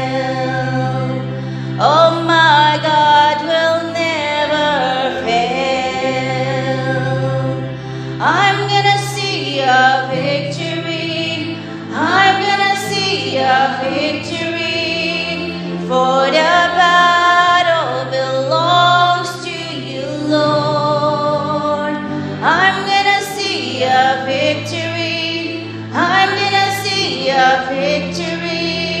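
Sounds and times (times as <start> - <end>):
backing singers: 0.0 - 29.0
keyboard: 0.0 - 29.0
woman singing lead: 0.0 - 29.0.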